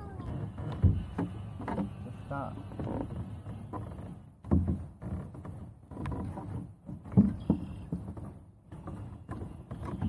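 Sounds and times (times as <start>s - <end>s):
gear knocking against kayak hull: 0.2s - 10.0s.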